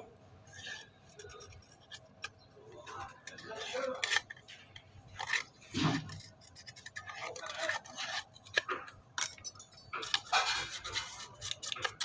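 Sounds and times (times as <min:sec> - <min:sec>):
tool scraping phone frame: 0:00.5 - 0:12.0.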